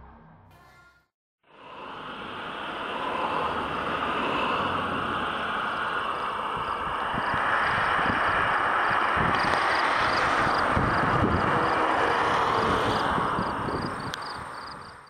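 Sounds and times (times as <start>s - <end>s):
wind: 0.0s - 15.0s
wind buffeting microphone: 2.9s - 15.0s.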